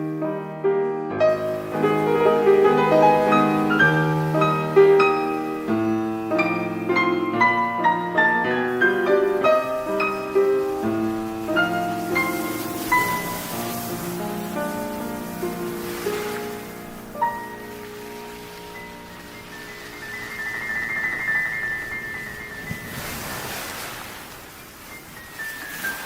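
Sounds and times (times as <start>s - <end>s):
gentle piano lullaby: 0.0s - 26.0s.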